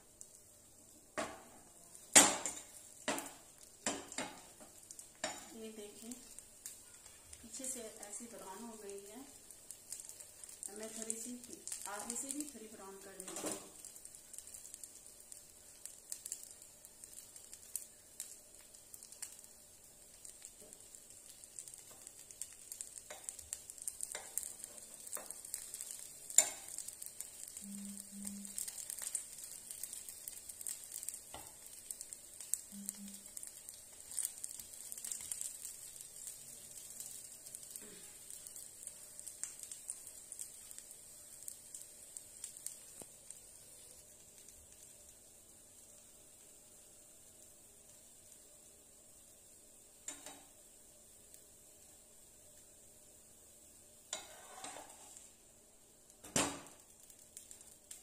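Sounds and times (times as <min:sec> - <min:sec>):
sandwich sizzling in a frying pan: 0:00.0 - 0:58.0.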